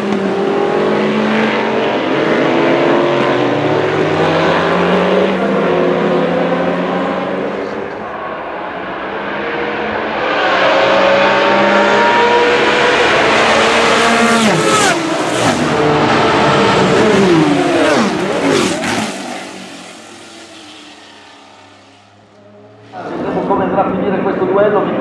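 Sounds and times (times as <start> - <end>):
race car engines at high revs: 0.0 - 25.0.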